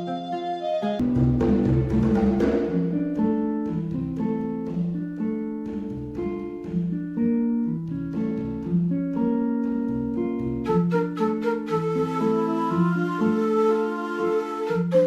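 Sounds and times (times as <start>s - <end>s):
plucked guitar-like melody: 0.0s - 15.0s.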